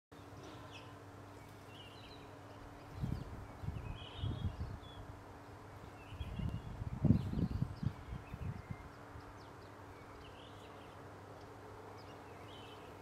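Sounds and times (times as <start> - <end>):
bird chirps: 0.2 - 5.1, 5.9 - 13.0.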